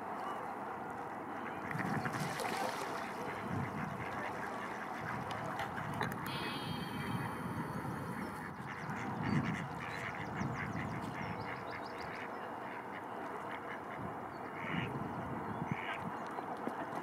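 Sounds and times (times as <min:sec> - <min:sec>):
steady background noise: 0:00.0 - 0:17.0
ducks quacking: 0:01.4 - 0:15.0, 0:15.7 - 0:16.0.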